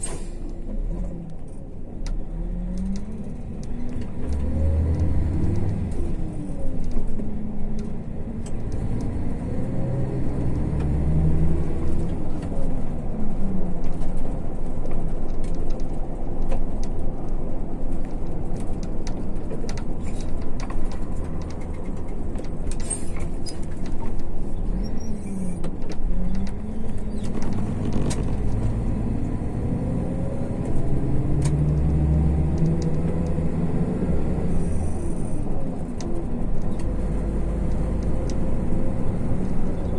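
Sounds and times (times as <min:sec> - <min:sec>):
bus body ticks and rattles: 0:00.0 - 0:39.9
bus diesel engine accelerating: 0:00.0 - 0:39.9
road noise: 0:00.0 - 0:39.9.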